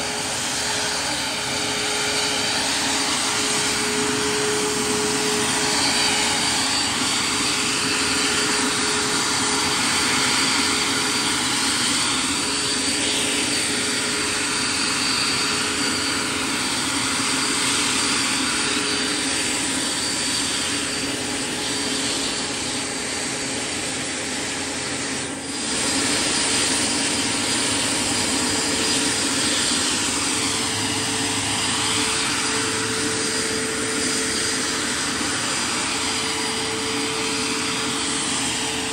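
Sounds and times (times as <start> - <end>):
model helicopter turbine whine: 0.0 - 38.9.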